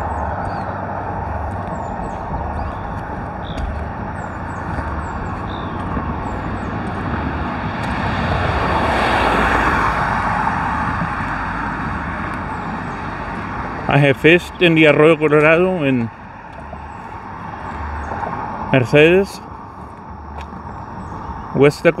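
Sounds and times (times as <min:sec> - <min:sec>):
small birds chirping: 0:00.0 - 0:08.2, 0:12.2 - 0:22.0
road traffic hum: 0:00.0 - 0:22.0
vehicle passing by: 0:00.0 - 0:22.0.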